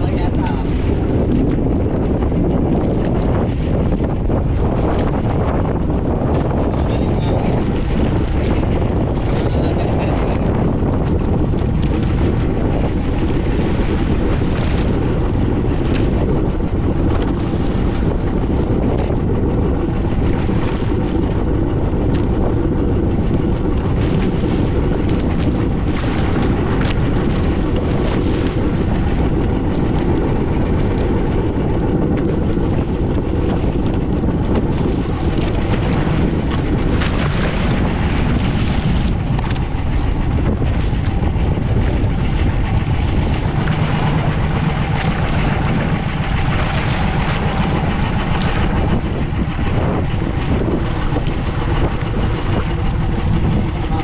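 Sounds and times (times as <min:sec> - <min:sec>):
boat engine and hull noise: 0:00.0 - 0:54.0
wind buffeting on microphone: 0:00.0 - 0:54.0.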